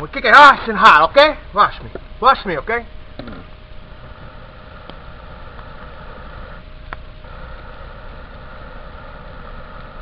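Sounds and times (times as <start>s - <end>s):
coals crackling: 0.0s - 10.0s.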